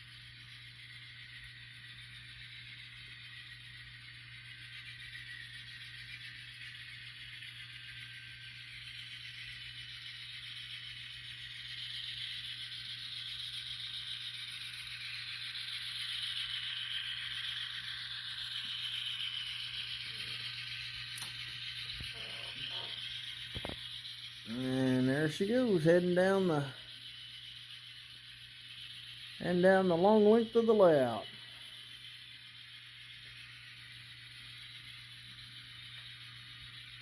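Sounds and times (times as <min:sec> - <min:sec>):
model train motor: 0:00.0 - 0:37.0
model train wheels rattling on rails: 0:00.0 - 0:37.0
steady low hum: 0:00.0 - 0:37.0.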